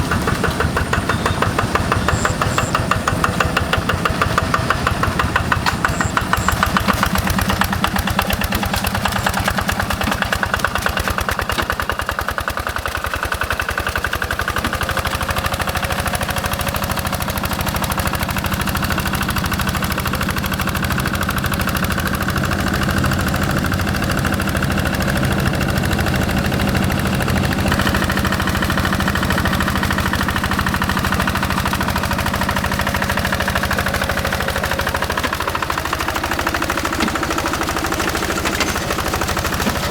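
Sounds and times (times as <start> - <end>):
diesel engine knocking: 0.0 - 39.9.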